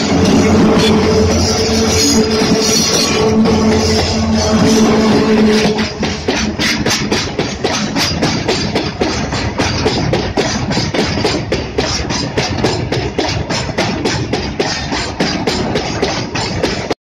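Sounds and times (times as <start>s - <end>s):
freight train rumble: 0.0s - 17.0s
train wheels clacking over rail joints: 0.0s - 17.0s.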